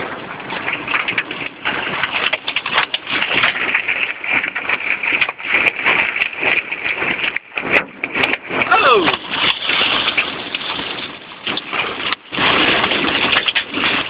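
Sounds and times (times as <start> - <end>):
hail and rain on car roof: 0.0 - 14.0.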